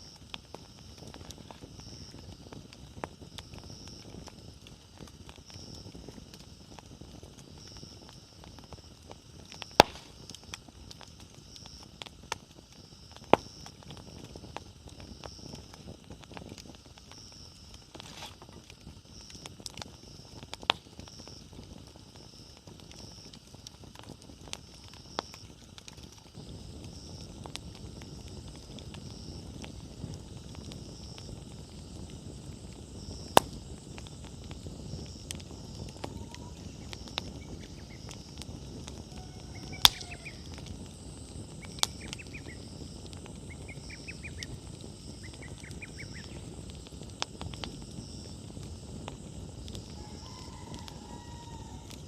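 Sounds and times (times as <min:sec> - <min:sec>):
fire crackling pops: 0:00.0 - 0:52.0
wood fire rushing: 0:00.0 - 0:52.0.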